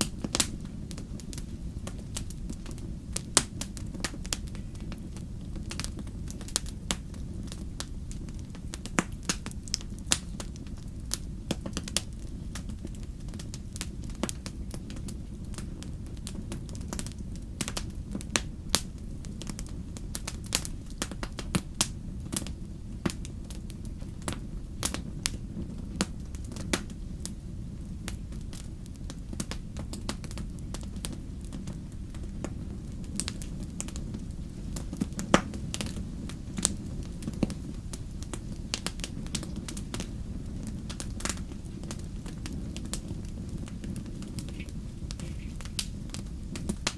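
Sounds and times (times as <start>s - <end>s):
wood fire crackling and popping: 0.0s - 46.9s.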